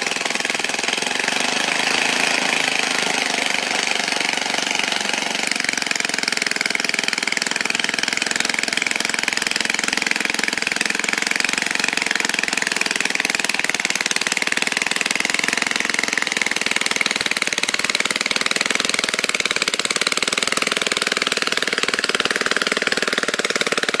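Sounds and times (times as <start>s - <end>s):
small tiller engine running: 0.0s - 24.0s.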